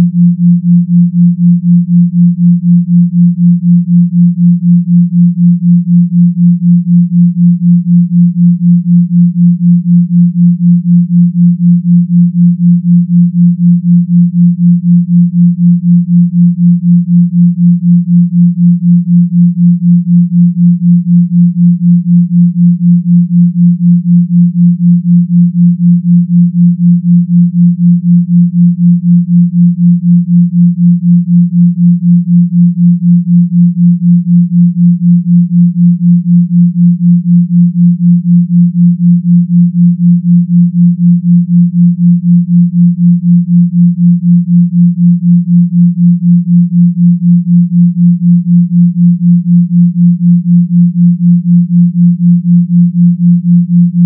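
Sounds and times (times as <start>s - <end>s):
pulsing low sine tone hum: 0.0s - 54.0s.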